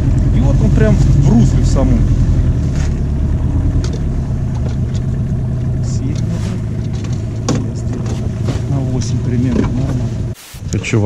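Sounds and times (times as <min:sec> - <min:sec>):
outboard motor running: 0:00.0 - 0:10.4.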